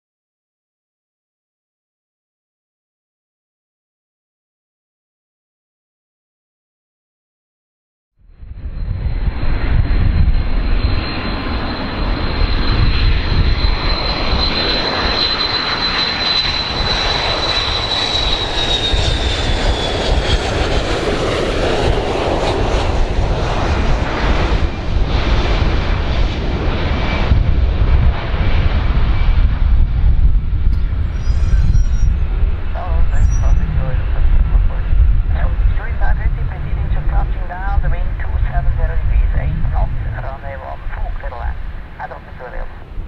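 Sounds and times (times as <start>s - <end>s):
jet engines rumbling and whining: 8.2s - 43.0s.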